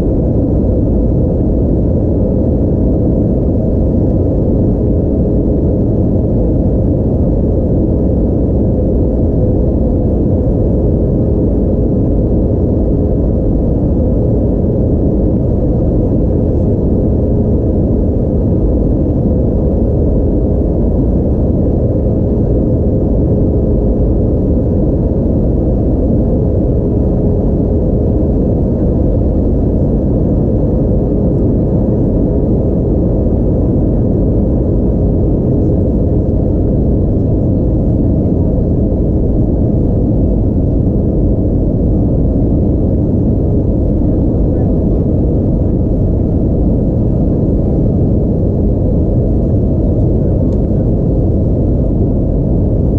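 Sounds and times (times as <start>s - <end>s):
airliner cabin drone: 0.0s - 52.9s
faint steady hum: 0.0s - 52.9s.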